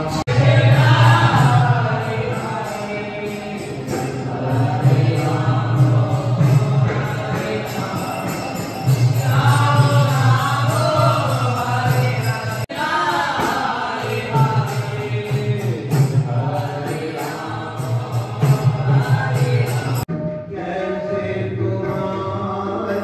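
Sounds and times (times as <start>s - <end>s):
voices chanting devotional melody: 0.0s - 23.0s.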